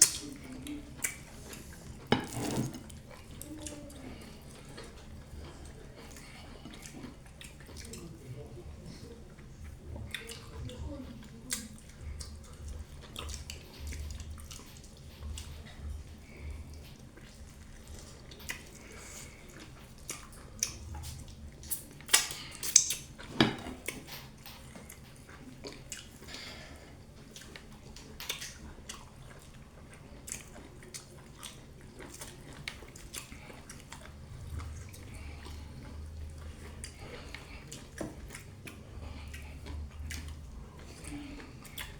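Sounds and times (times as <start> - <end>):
wet chewing and mouth smacks: 0.0 - 41.9.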